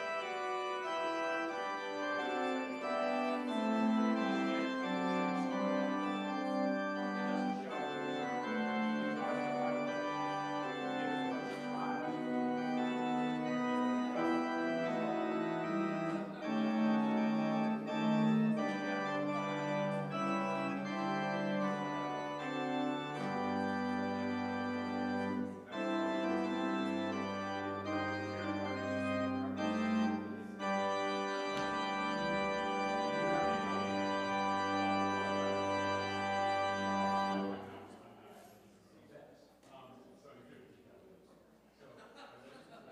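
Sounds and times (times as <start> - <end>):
organ playing sustained chords: 0.0 - 37.9.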